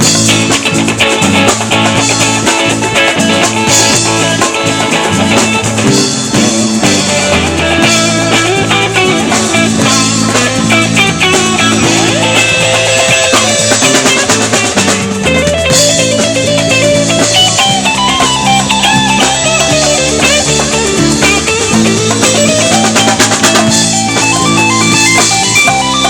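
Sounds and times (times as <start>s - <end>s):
electric guitar lines: 0.0s - 26.0s
live rock band playing: 0.0s - 26.0s.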